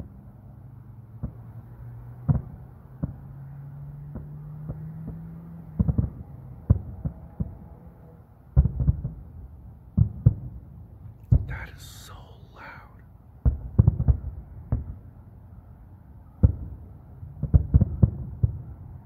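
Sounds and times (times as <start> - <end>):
distant fireworks booming: 1.2 - 15.1, 16.2 - 19.0.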